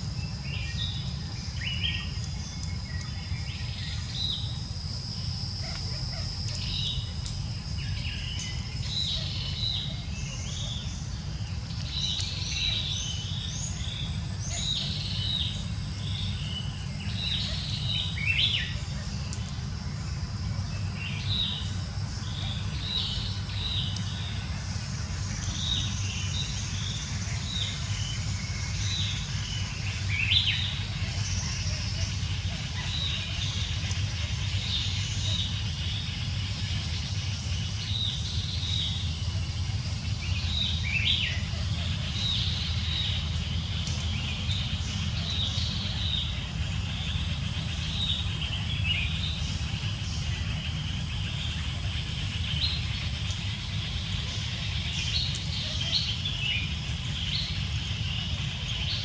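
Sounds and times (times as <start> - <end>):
birds chirping: 0.0 - 59.0
constant low rumble: 0.0 - 59.0
high insect drone: 0.0 - 59.0.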